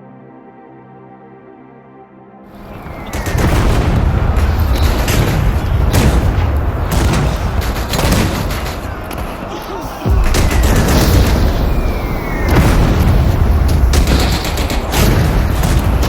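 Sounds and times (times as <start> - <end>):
bursts of gunfire: 2.5 - 16.0
distant artillery rumble: 2.5 - 16.0
rifle shots: 2.5 - 16.0.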